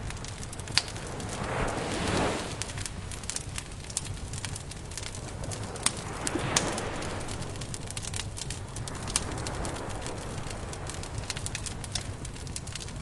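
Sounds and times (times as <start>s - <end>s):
campfire crackling and popping: 0.0s - 13.0s
soft rushing: 0.2s - 11.7s.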